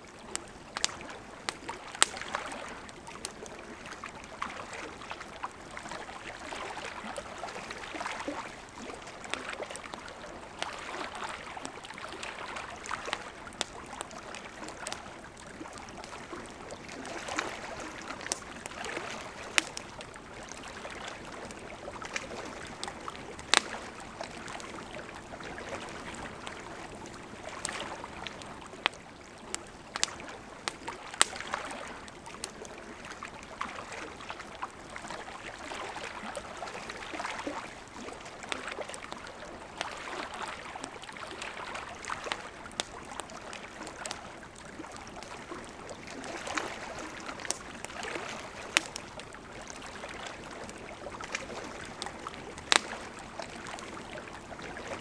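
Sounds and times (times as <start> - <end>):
burning wood crackling and popping: 0.1 - 4.6, 5.2 - 33.2, 37.4 - 55.0.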